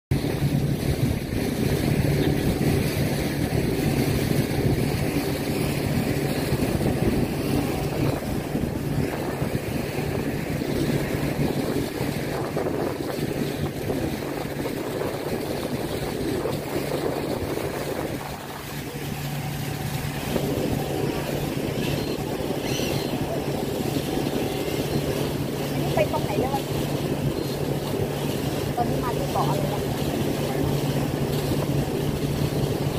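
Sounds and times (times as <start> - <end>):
boat engine humming: 0.1 - 32.9
wind and water rushing: 0.1 - 32.9.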